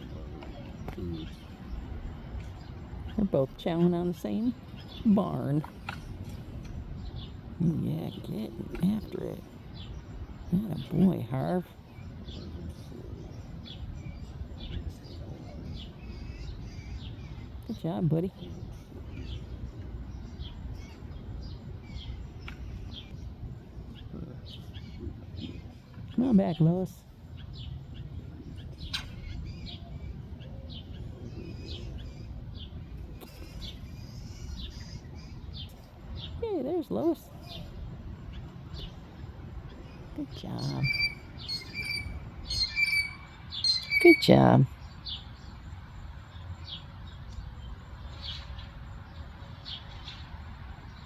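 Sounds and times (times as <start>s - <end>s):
songbirds chirping: 0.0s - 51.0s
steady low rumble: 0.0s - 51.0s.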